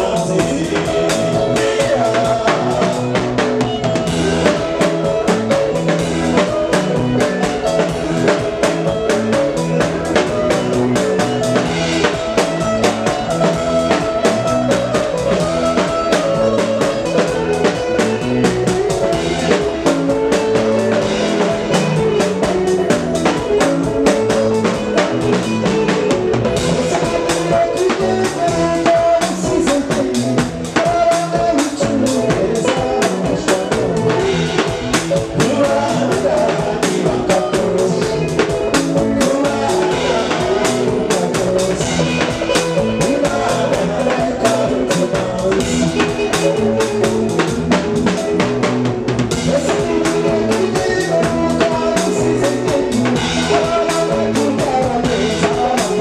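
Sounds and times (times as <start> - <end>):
drum kit beat: 0.0 - 56.0
electric bass: 0.0 - 56.0
keyboard: 0.0 - 56.0.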